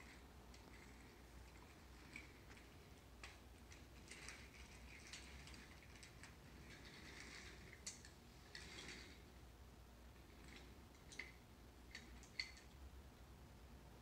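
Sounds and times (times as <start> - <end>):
wooden toy train rattling on track: 0.0 - 9.3, 10.2 - 12.7.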